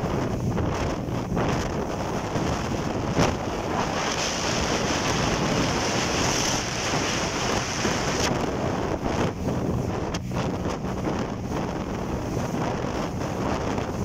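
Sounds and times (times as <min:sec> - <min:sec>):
motorboat engine running: 0:00.0 - 0:14.0
water rushing past hull: 0:00.0 - 0:14.0
wind buffeting microphone: 0:00.0 - 0:14.0.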